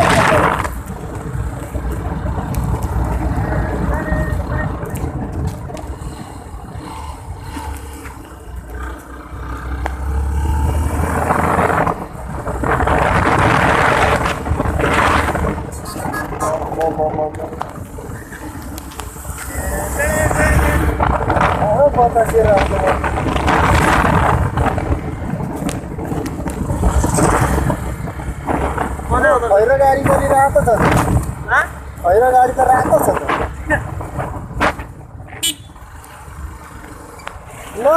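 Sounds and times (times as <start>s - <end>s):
wind on microphone: 0.0s - 8.7s, 9.8s - 37.0s
motorcycle engine rumble: 0.0s - 37.9s.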